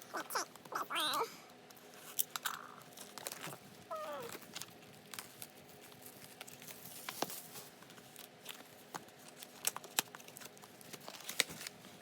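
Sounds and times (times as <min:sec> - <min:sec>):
paper or plastic crinkling: 0:01.8 - 0:12.0.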